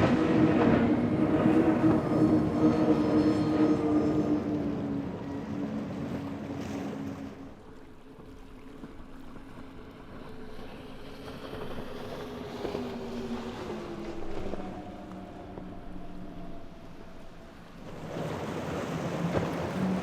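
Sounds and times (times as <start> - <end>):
motorboat engines running: 0.0 - 20.0
waves washing: 0.0 - 20.0.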